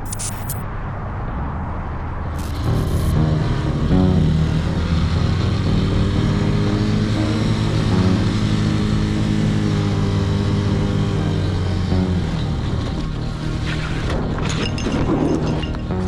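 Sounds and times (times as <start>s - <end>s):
road and wind noise: 0.0s - 16.0s
vehicle engine running: 2.4s - 16.0s.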